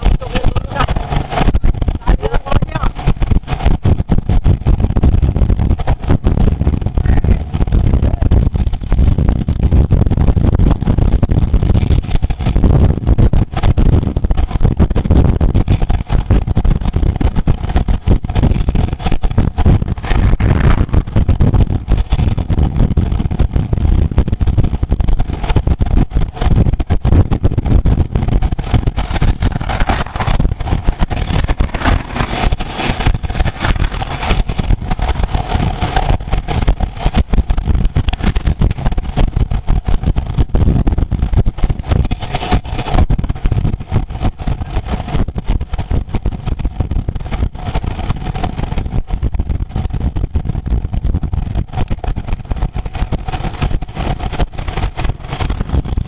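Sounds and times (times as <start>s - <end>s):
bicycle road noise: 0.0s - 56.0s
wind buffeting microphone: 0.0s - 56.0s.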